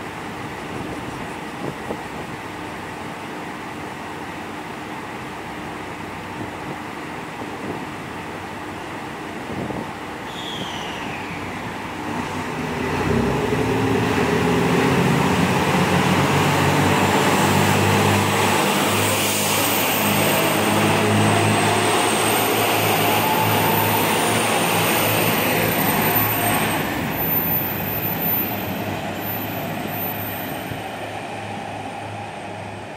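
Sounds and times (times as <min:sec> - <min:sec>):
diesel train engines: 0:00.0 - 0:32.9.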